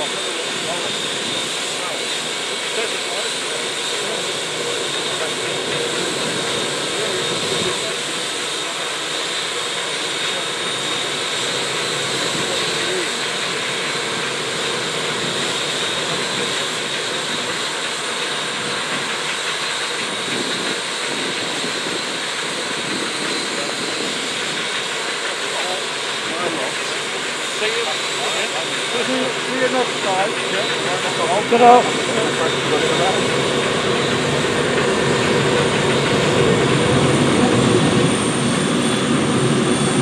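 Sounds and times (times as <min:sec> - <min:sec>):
jet turbine whine: 0:00.0 - 0:40.0.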